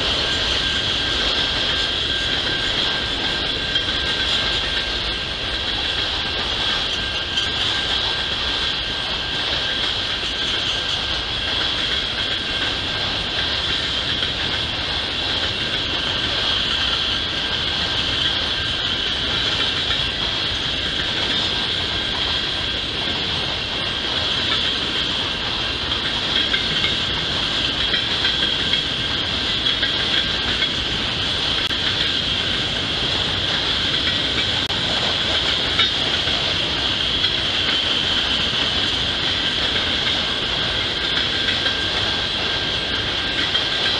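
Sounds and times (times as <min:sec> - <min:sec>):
steel wheels rolling on rail: 0:00.0 - 0:43.9.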